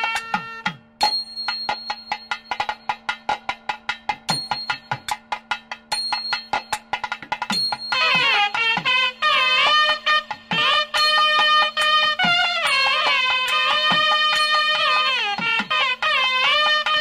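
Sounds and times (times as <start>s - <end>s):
fast percussion strokes: 0.0s - 17.0s.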